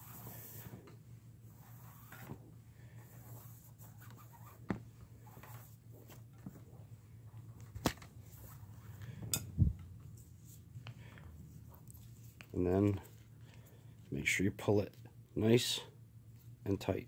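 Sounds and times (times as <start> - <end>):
paracord rustling: 0.0 - 14.2
steady low hum: 0.0 - 17.0.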